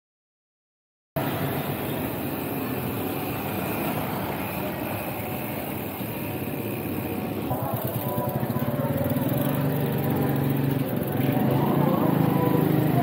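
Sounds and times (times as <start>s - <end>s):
road and car noise: 1.2s - 13.0s.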